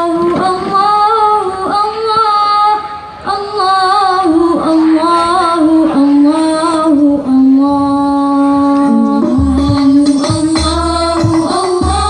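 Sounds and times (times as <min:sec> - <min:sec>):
girls singing through pa: 0:00.0 - 0:12.0.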